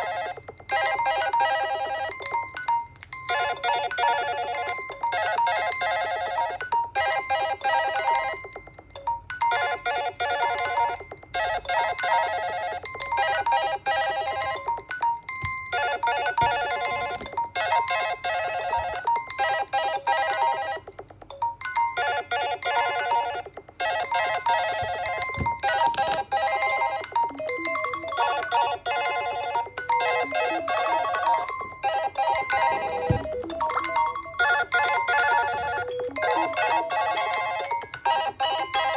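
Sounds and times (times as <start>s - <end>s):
phone alarm melody: 0.0s - 38.9s.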